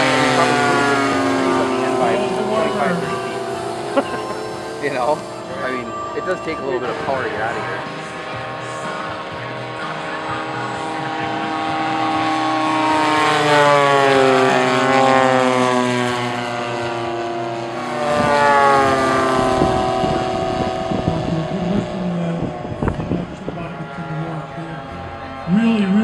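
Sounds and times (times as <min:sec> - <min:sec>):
model airplane propeller engines droning: 0:00.0 - 0:26.0.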